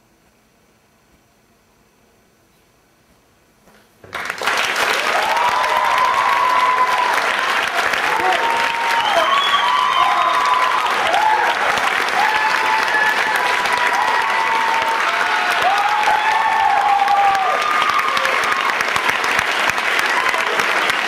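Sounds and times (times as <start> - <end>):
audience applauding: 4.1 - 21.0.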